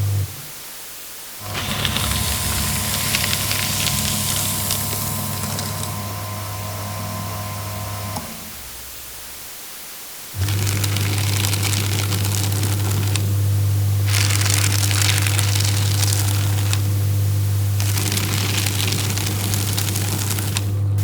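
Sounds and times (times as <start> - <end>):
paper shredder motor hum: 1.4 - 9.5, 10.4 - 21.0
paper shredding crackle: 1.4 - 9.6, 10.3 - 21.0.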